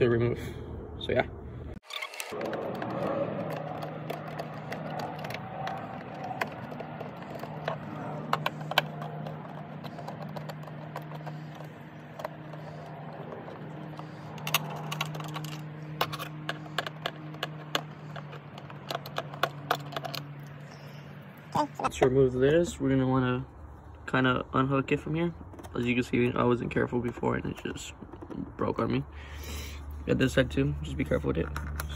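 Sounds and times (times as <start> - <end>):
steady low hum: 2.4 - 31.9.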